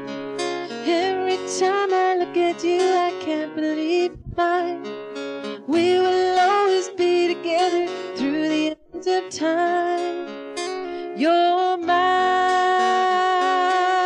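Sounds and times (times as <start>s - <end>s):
acoustic guitar: 0.0s - 14.0s
woman singing: 0.6s - 5.0s, 5.6s - 14.0s.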